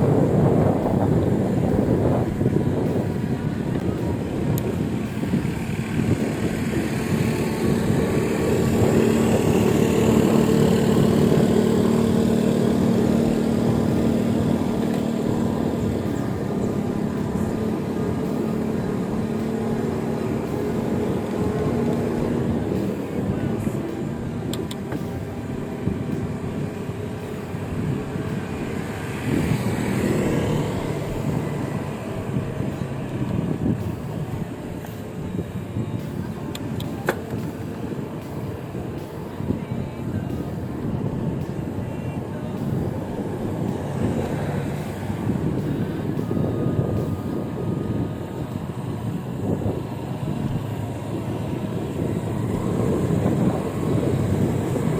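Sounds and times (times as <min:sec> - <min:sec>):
traffic rumble: 0:00.0 - 0:54.9
vehicle passing: 0:00.0 - 0:54.9
wind rushing over microphone: 0:00.0 - 0:54.9.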